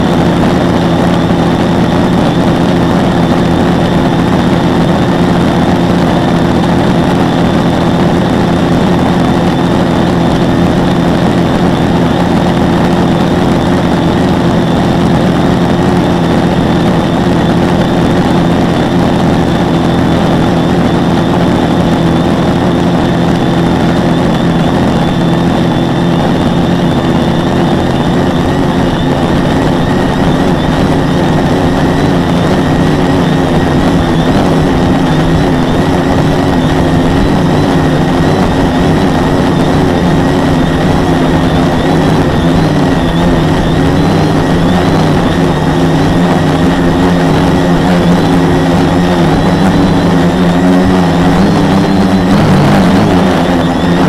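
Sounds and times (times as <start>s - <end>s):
quadcopter propellers droning: 0.0s - 54.0s.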